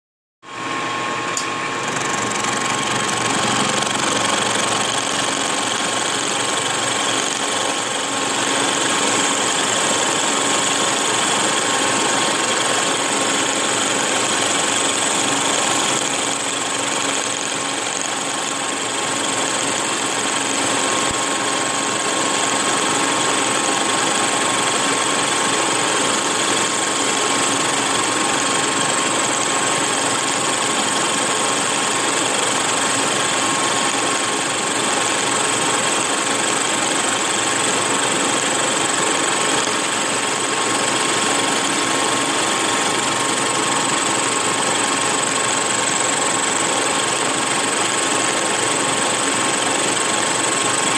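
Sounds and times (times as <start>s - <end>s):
milling machine cutting steel: 0.6s - 50.9s.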